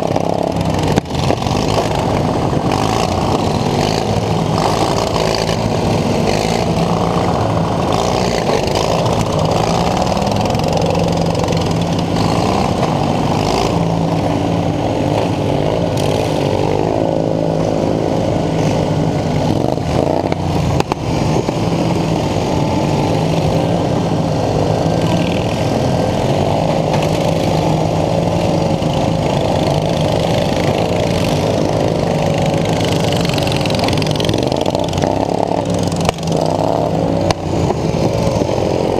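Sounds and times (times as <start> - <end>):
lawn mower engine revving: 0.0 - 38.9.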